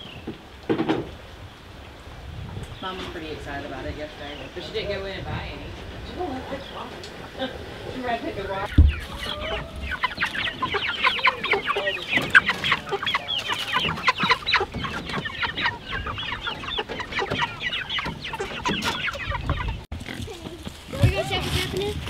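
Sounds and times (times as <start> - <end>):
chickens clucking and squawking: 0.0 - 22.0.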